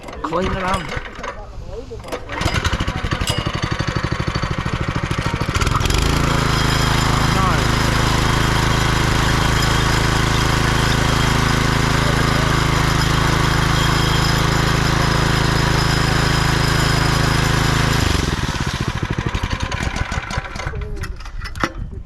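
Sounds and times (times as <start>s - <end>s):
small petrol engine running: 0.0s - 1.4s, 2.0s - 21.9s.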